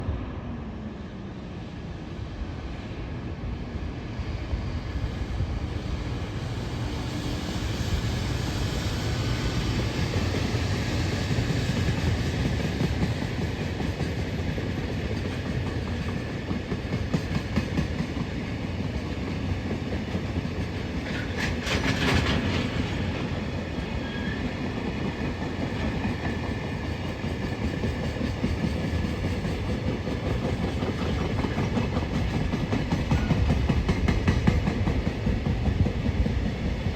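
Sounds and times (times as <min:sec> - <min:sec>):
train wheels rumbling on rail: 0:00.0 - 0:36.9
sharp train clatter: 0:06.1 - 0:36.9.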